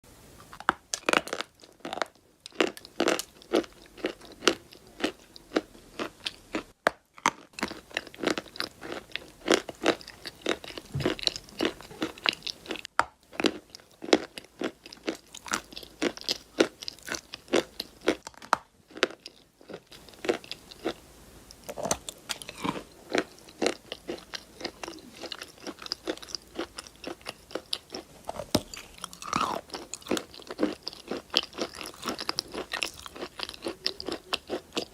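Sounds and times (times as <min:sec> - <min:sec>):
chalk crunching and chewing: 0:00.5 - 0:34.9.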